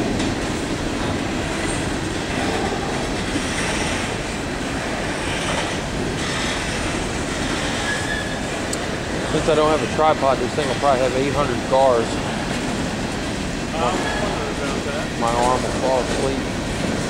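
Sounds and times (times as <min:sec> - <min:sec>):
freight train wheels rumbling on rails: 0:00.0 - 0:17.0.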